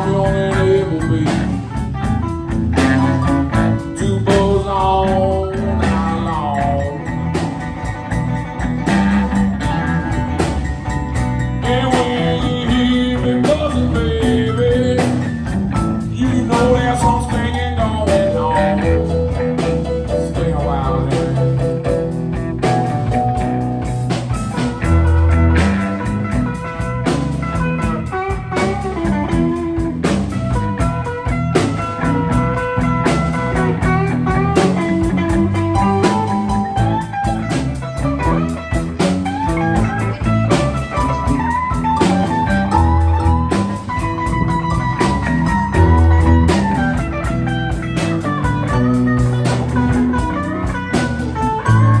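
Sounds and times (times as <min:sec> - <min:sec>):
drum kit: 0:00.0 - 0:52.0
electric guitars: 0:00.0 - 0:52.0.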